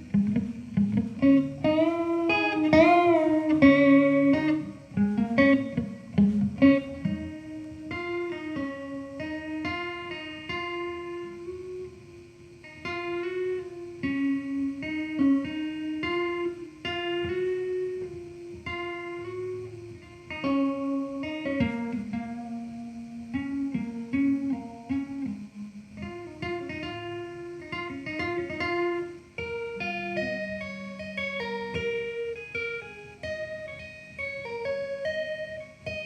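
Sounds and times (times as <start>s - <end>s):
plucked guitar melody: 0.0s - 36.0s.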